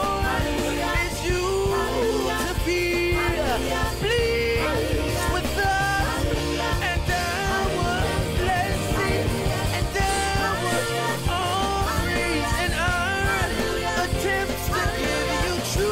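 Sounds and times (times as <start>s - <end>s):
instrumental music with bass line: 0.0s - 15.9s
person singing: 0.0s - 15.9s.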